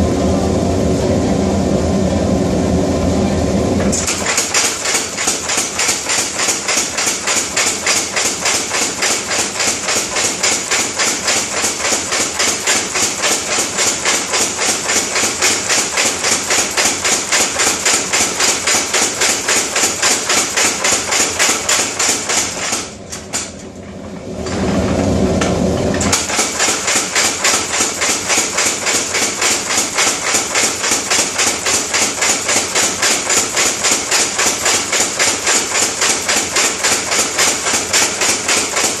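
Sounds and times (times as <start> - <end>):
power hammer striking steel: 4.0 - 23.5, 25.4 - 39.0.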